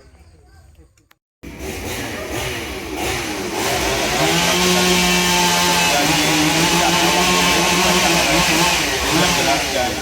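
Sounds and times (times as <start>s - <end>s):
small petrol engine revving: 1.4s - 10.0s.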